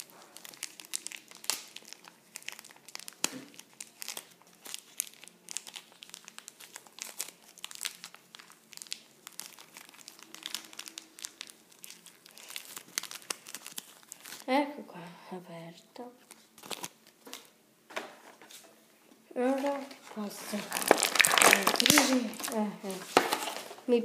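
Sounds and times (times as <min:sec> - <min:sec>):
plastic tearing: 0:00.0 - 0:14.5, 0:16.2 - 0:17.5, 0:19.5 - 0:23.9
plastic packaging crinkling: 0:00.0 - 0:14.6, 0:16.2 - 0:18.7, 0:19.4 - 0:24.0.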